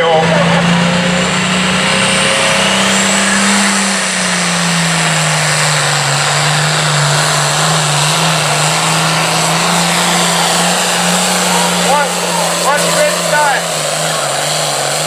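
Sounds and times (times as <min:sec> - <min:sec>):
tractor diesel engine running hard: 0:00.0 - 0:15.0.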